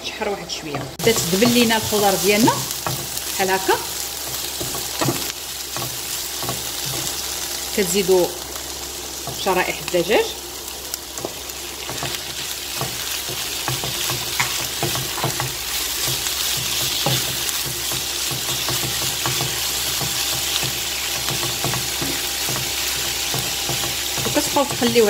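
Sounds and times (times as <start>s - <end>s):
food sizzling in frying pan: 0.7s - 25.0s.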